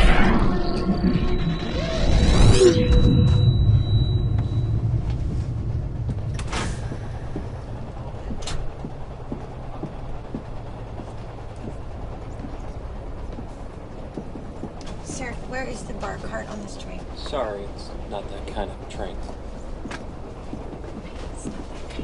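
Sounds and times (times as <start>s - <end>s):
train rumble inside carriage: 0.0s - 22.0s.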